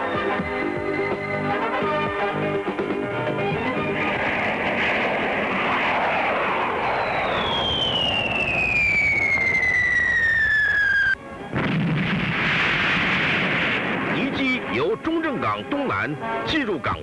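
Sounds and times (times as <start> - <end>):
jet engine whine: 0.0 - 16.5
jet aircraft roar: 0.0 - 17.0.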